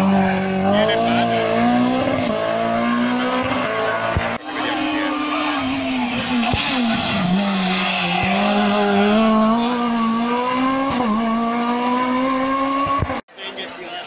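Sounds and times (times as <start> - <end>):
rally car engine revving: 0.0 - 13.2.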